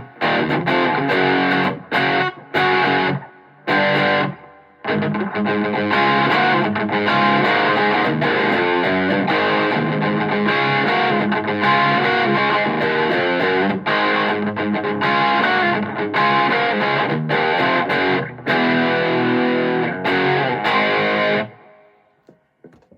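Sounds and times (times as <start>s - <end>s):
distorted electric guitar riffing: 0.0s - 21.8s.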